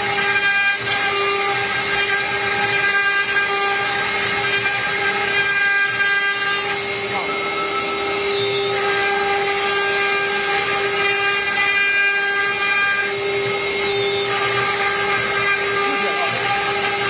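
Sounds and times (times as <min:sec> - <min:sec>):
router spindle high whine: 0:00.0 - 0:17.0.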